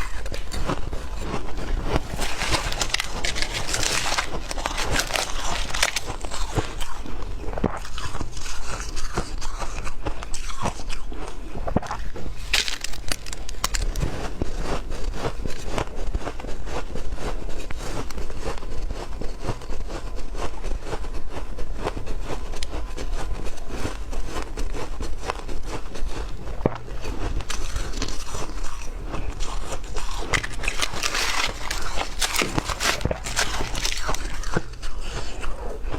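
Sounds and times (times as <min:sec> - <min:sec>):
chewing ice crunching: 0:00.0 - 0:35.9.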